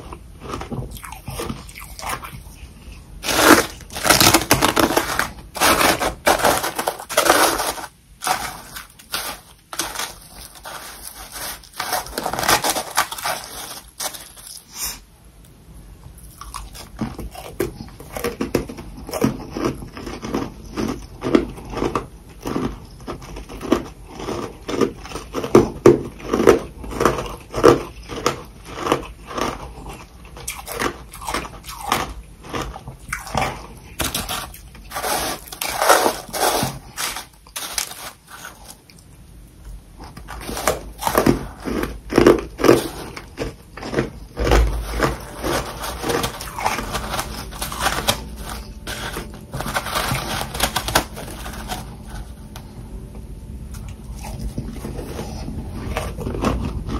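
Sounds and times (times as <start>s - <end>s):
ice crunching being chewed: 0.0s - 14.9s, 16.2s - 52.8s, 53.7s - 56.9s.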